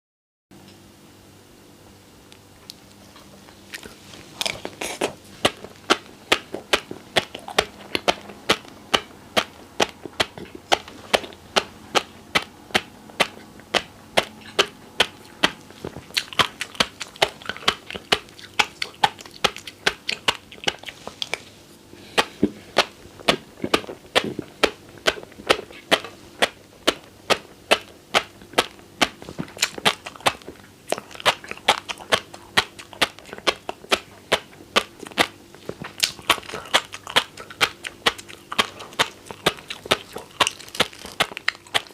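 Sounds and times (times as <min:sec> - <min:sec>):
chewing fish roe popping: 0:02.6 - 0:41.9.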